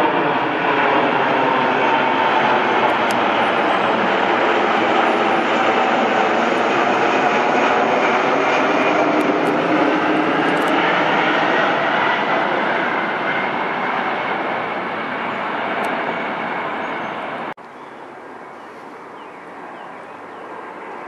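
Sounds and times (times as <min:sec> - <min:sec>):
jet plane passing overhead: 0:00.0 - 0:21.0.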